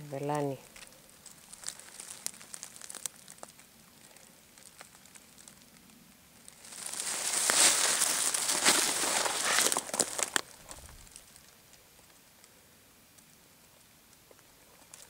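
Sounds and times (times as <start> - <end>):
leaves and twigs rustling: 0.0 - 12.6
faint clicks and crackles: 0.4 - 15.0.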